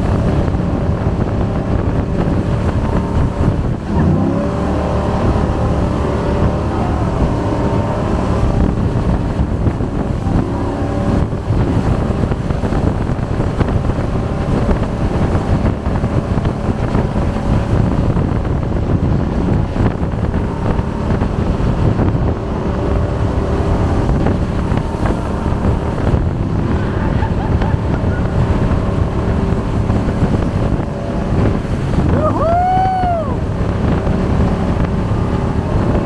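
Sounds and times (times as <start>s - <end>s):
jet boat engine running: 0.0s - 36.0s
wind buffeting microphone: 0.0s - 36.0s.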